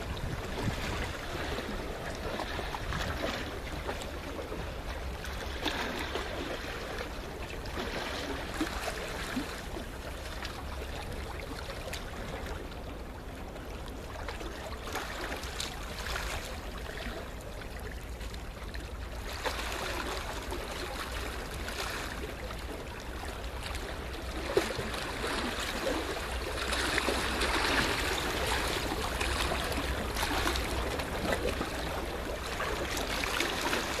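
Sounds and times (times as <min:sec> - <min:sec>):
small waves washing on shore: 0:00.0 - 0:34.0.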